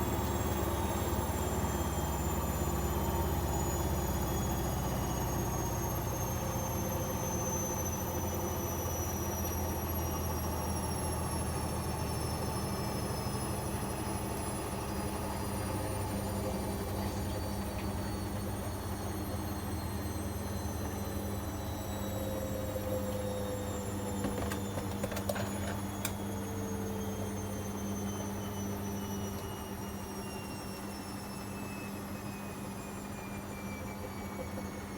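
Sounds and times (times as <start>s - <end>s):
washing machine drum motor whine: 0.0s - 34.9s.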